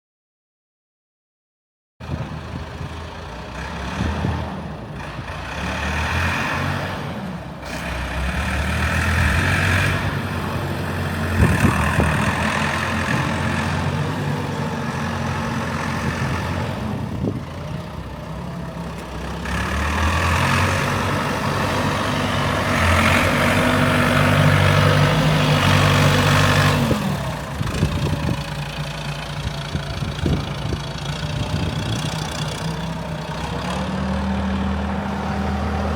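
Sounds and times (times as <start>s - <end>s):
tractor diesel engine running: 2.0s - 35.9s.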